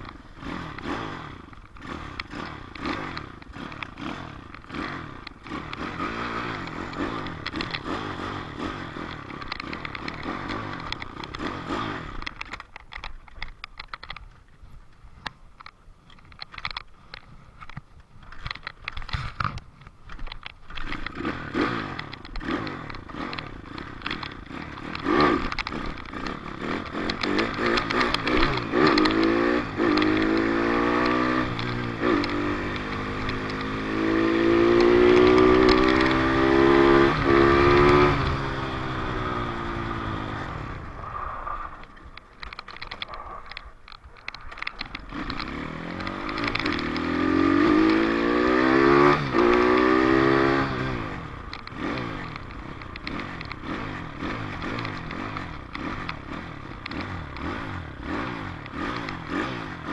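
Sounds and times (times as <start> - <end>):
dirt bike engine revving: 0.0 - 12.5, 20.8 - 59.9.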